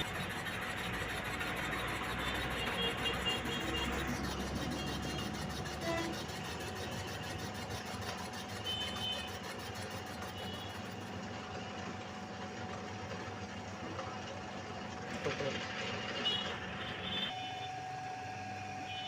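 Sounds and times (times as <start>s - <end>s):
workshop machine humming: 0.0s - 19.0s.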